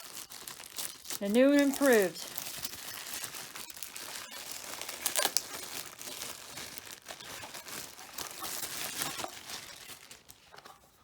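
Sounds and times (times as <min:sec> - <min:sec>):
loud packaging crackle: 0:00.0 - 0:11.0
packaging crinkling and rustling: 0:00.0 - 0:11.0.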